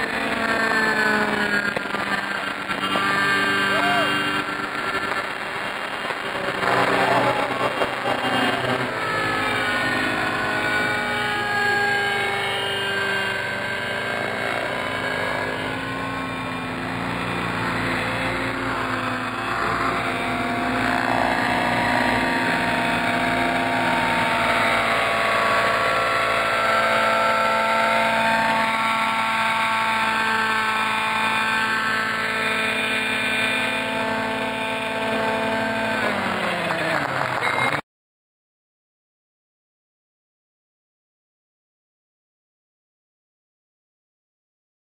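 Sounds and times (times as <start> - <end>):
model helicopters whining: 0.0 - 37.8.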